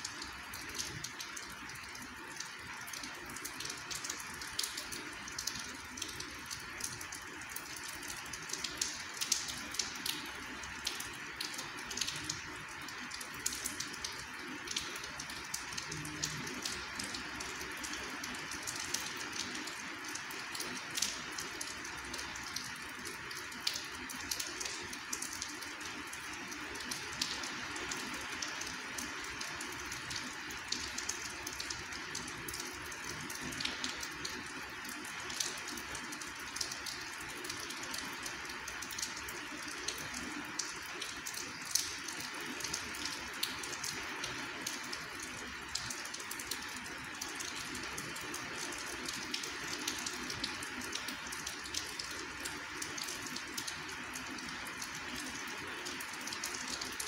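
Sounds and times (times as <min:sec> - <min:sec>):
rain falling: 0:00.0 - 0:57.0
raindrops ticking: 0:00.0 - 0:57.0.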